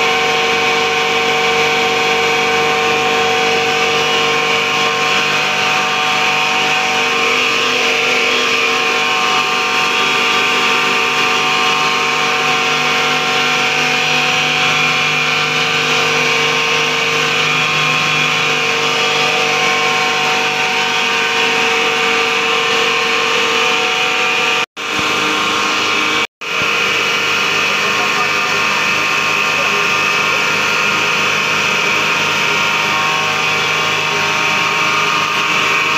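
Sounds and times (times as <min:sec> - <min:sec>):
disk mill grinding drone: 0:00.0 - 0:35.9.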